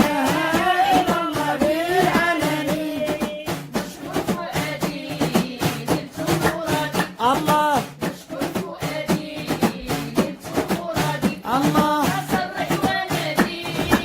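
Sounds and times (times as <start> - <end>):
hand percussion beat: 0.0 - 14.0
voices chanting: 0.0 - 14.0.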